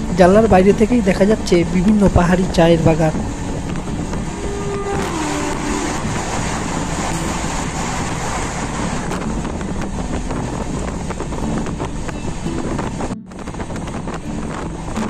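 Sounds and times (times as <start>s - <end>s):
train rumble and air rush: 0.0s - 15.0s.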